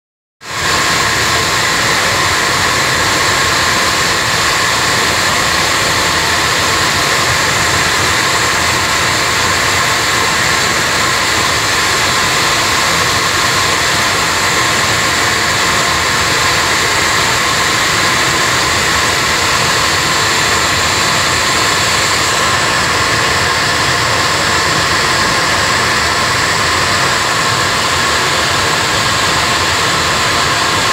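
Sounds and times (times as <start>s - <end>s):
oil burner fan and flame rush: 0.4s - 30.9s.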